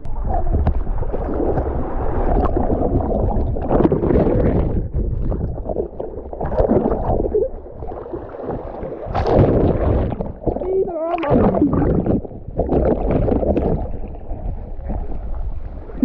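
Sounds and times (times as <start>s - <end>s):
river water sloshing and gurgling: 0.0s - 16.0s.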